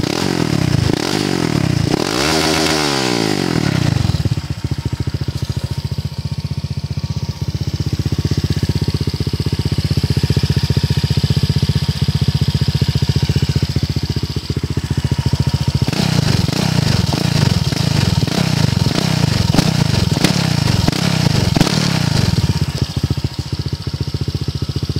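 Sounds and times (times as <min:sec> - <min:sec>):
scooter engine idling and revving: 0:00.0 - 0:24.9.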